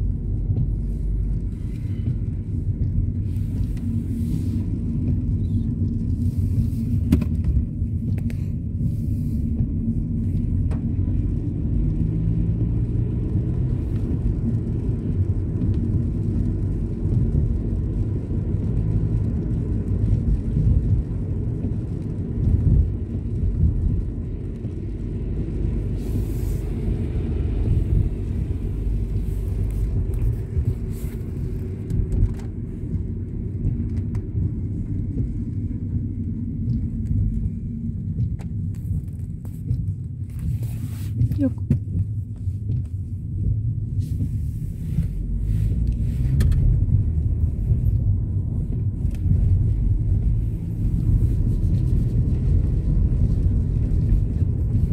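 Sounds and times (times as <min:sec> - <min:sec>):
car cabin road and engine rumble: 0:00.0 - 0:54.9.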